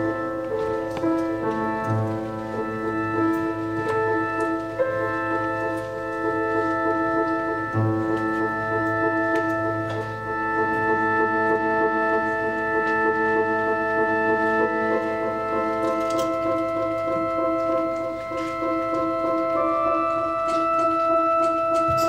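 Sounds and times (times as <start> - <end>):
experimental ensemble drone music: 0.0 - 22.0.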